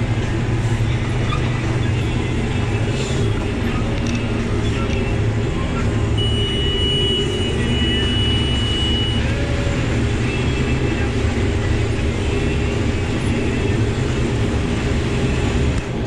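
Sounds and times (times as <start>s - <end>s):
combine engine drone: 0.0s - 16.0s.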